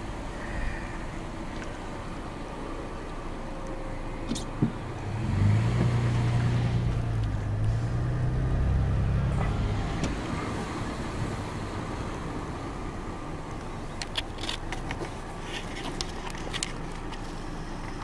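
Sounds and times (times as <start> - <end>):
road and engine noise: 0.0 - 18.0.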